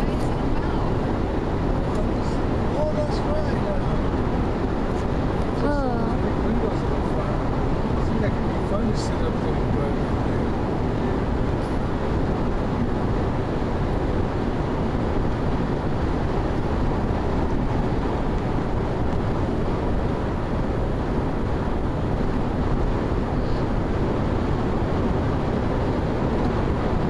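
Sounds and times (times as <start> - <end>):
road and engine noise inside car: 0.0 - 27.0.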